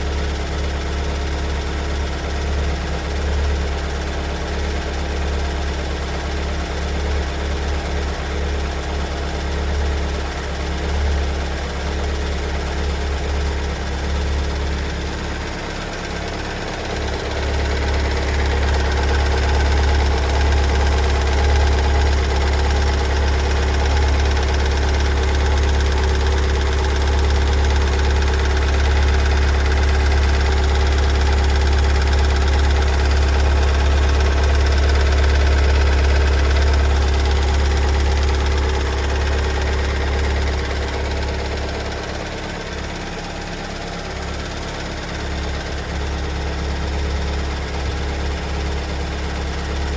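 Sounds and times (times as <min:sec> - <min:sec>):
diesel engine knocking loudly: 0:00.0 - 0:49.9.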